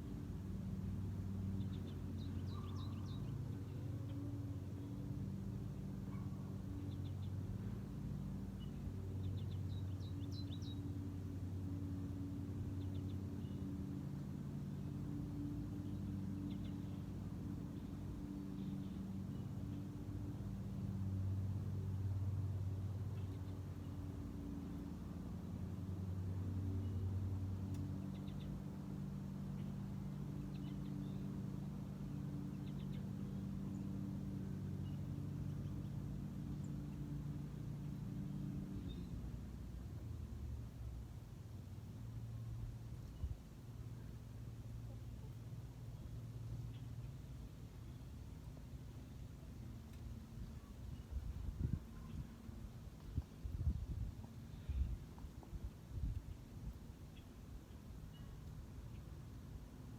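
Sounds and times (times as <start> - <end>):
distant machinery hum: 0.0 - 59.9
small birds chirping: 0.0 - 59.9.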